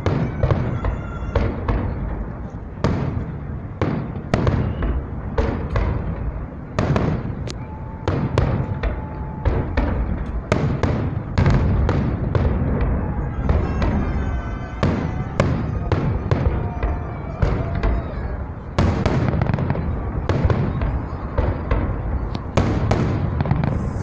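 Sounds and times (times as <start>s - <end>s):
fireworks bursting with sharp bangs: 0.0s - 24.0s
low rumble of echoes: 0.0s - 24.0s.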